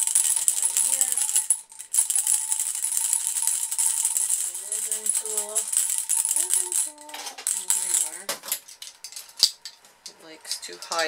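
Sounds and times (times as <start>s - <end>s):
containers and utensils rattling: 0.0s - 11.0s.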